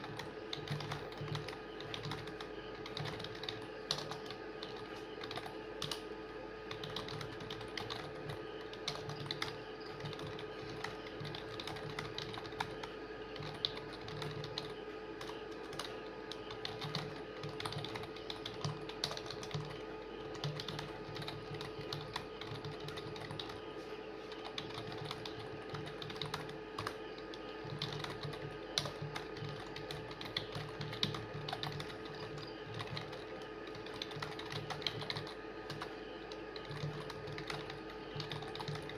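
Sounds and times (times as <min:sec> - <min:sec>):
fast typing on keyboard: 0:00.0 - 0:23.7, 0:24.3 - 0:38.9
steady low hum: 0:00.0 - 0:38.9.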